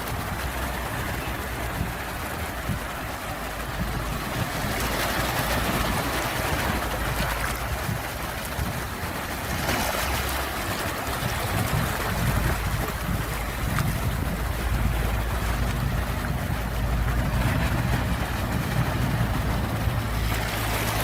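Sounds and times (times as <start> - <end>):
sea waves washing onto shore: 0.0 - 21.0.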